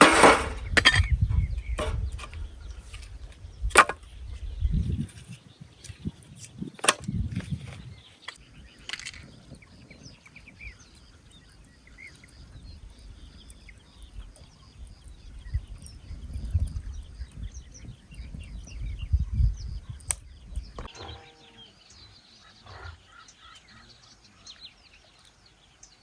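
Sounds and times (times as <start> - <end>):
faint bird chirps: 1.0 - 26.0.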